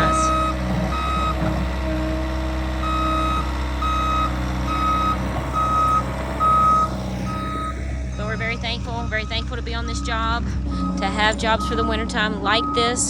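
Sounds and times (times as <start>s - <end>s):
backup alarm beeping: 0.0s - 13.0s
diesel engine drone: 0.0s - 13.0s.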